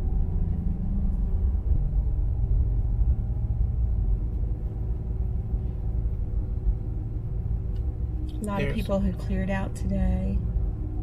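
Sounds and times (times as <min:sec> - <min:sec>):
car engine from inside cabin: 0:00.0 - 0:11.0
road rumble: 0:00.0 - 0:11.0.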